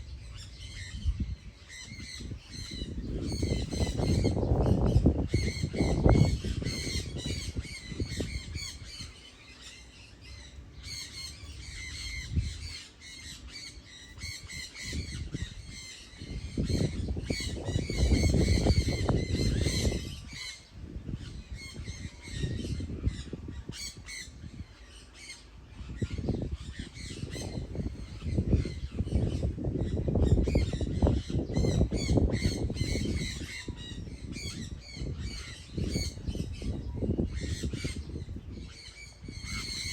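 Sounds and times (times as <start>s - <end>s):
flock of birds squawking: 1.7s - 39.9s.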